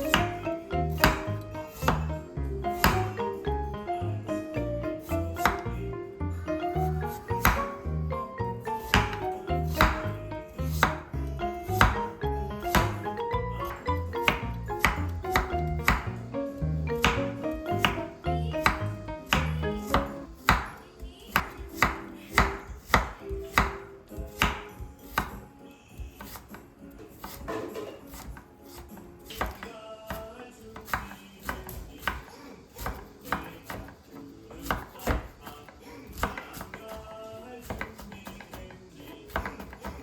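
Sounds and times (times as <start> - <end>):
knife chopping on cutting board: 0.0 - 3.4, 4.6 - 5.8, 6.6 - 40.0
soft background music: 0.0 - 40.0.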